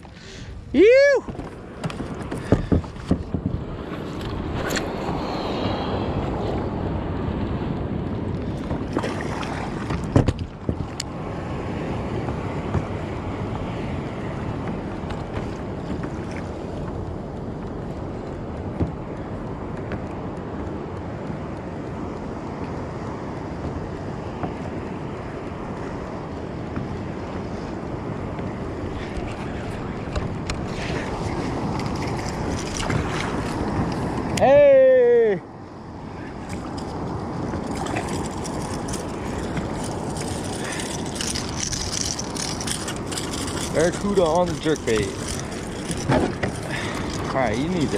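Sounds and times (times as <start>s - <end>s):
water sloshing against kayak: 0.0s - 34.7s, 35.5s - 47.9s
wind buffeting microphone: 0.0s - 47.9s.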